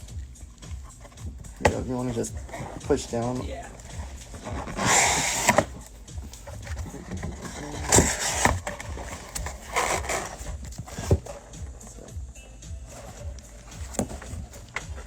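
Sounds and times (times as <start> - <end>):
cardboard boxes scraping: 0.0 - 12.2, 12.8 - 15.0.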